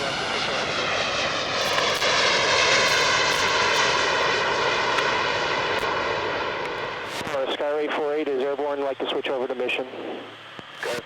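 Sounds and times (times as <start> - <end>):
small jet engines whining: 0.0 - 11.0.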